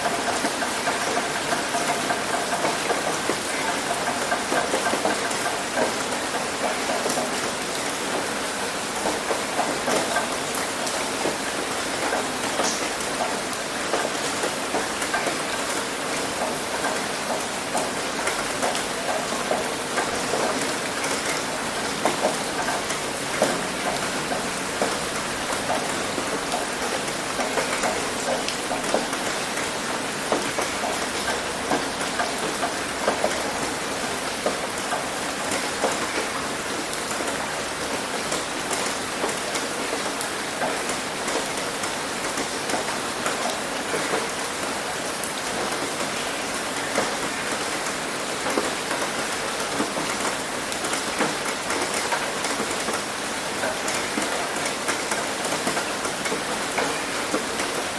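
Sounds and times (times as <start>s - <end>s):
heavy rain on a roof: 0.0s - 57.9s.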